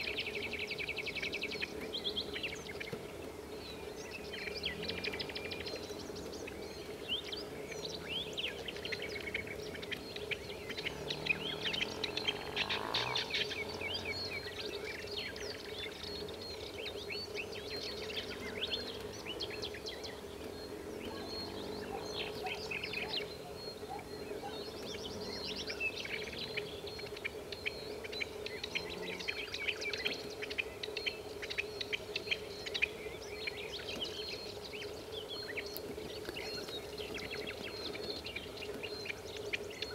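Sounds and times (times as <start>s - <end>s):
partridges chattering calls: 0.0s - 39.9s.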